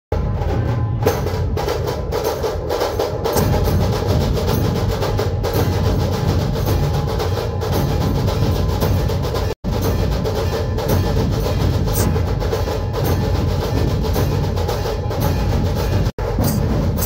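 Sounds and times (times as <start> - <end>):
barrel drums beaten: 0.1 - 17.0
sharp drum strokes: 0.1 - 17.0
hand cymbals clashing: 2.2 - 17.0.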